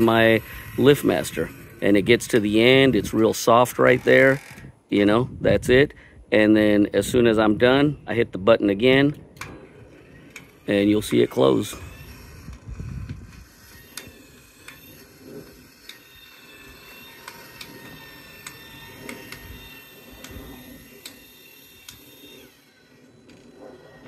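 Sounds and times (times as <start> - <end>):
gate opener motor whine: 0.0 - 5.1, 9.0 - 24.0.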